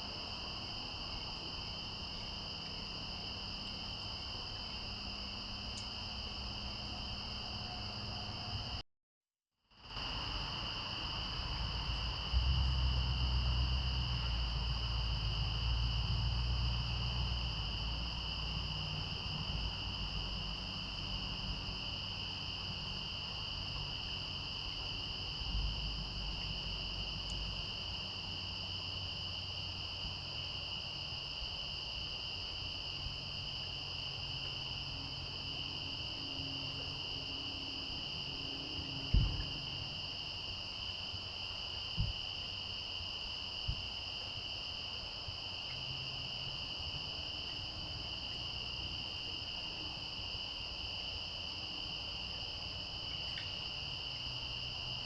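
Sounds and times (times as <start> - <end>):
crickets chirping: 0.0 - 8.8, 9.7 - 55.0.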